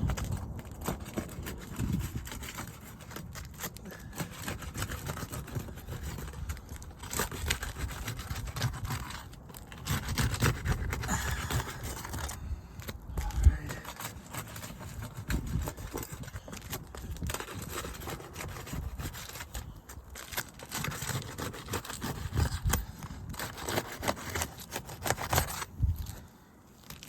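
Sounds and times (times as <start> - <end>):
roof shingles being pried apart: 0.0 - 26.2.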